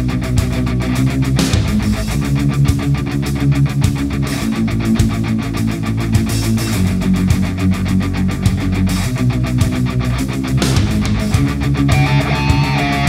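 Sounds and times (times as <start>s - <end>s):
guitar rock music: 0.0s - 13.0s.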